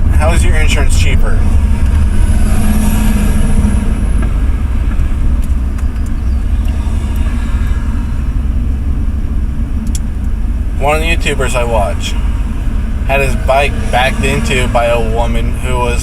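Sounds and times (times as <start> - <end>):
pickup engine rumble: 0.0 - 16.0
road noise: 0.0 - 16.0.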